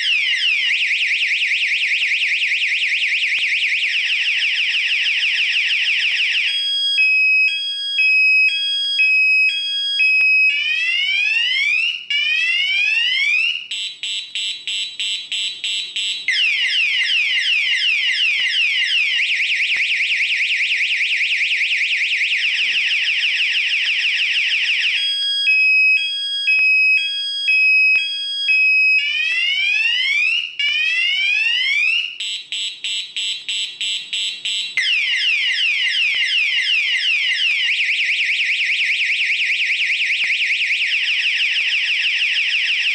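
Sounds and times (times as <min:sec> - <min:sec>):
electronic alarm siren: 0:00.0 - 0:42.9.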